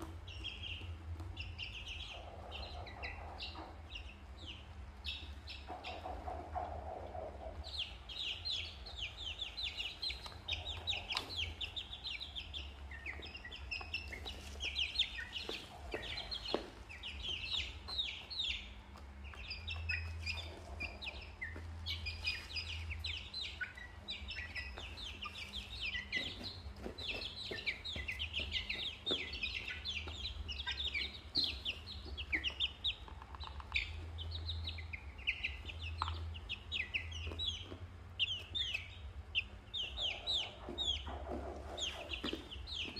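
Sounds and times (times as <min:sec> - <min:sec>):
chicks and ducklings peeping: 0:00.0 - 0:42.9
low steady hum: 0:00.0 - 0:42.9.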